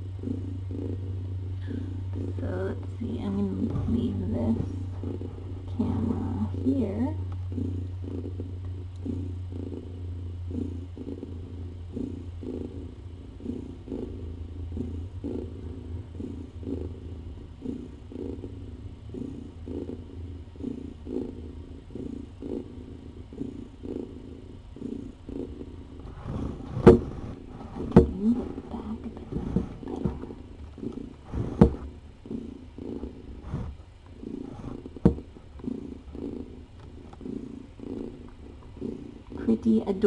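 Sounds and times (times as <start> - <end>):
cat purring: 0.0 - 40.0.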